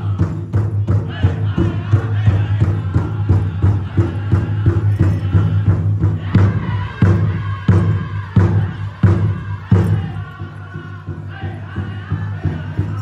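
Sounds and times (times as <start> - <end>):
big drum fast beat: 0.0 - 13.0.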